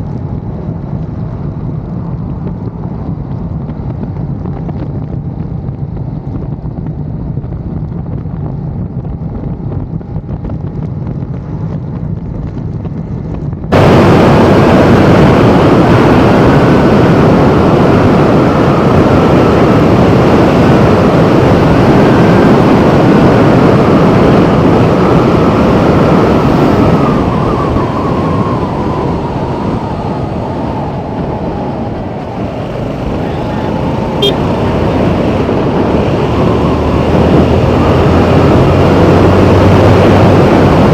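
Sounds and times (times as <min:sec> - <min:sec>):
motorcycle riding: 0:00.0 - 0:40.9
wind rush on microphone: 0:00.0 - 0:40.9.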